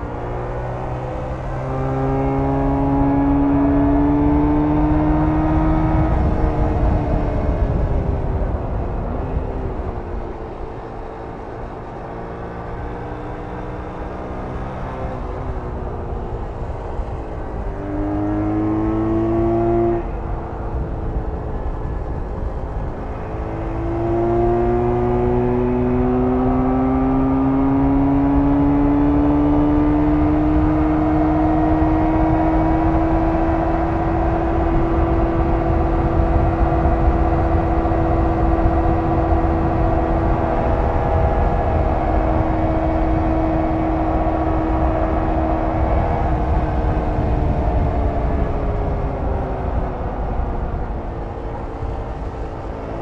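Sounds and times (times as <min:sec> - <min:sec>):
motorcycle engine running: 0:01.1 - 0:53.0.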